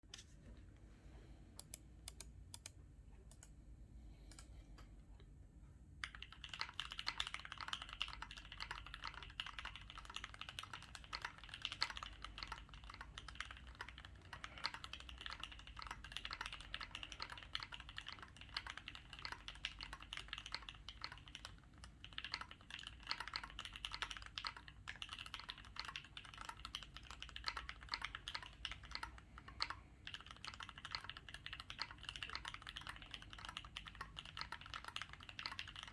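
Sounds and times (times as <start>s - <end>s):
mechanical keyboard typing: 6.0s - 35.9s.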